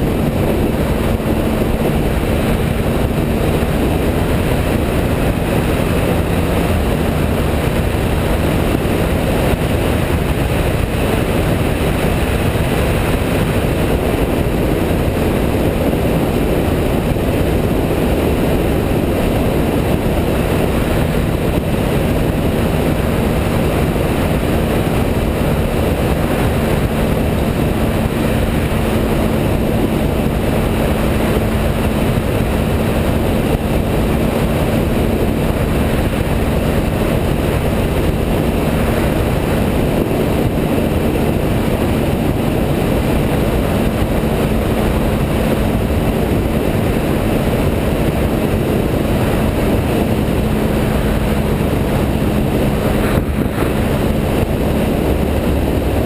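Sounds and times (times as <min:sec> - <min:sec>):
motorcycle engine cruising: 0:00.0 - 0:56.0
road noise: 0:00.0 - 0:56.0
wind rush: 0:00.0 - 0:56.0.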